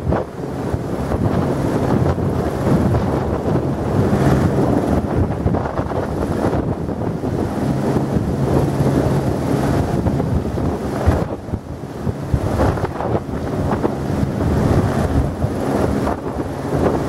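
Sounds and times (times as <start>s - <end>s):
helicopter rotor and engine hum: 0.0s - 17.0s
wind buffeting on microphone: 0.0s - 17.0s.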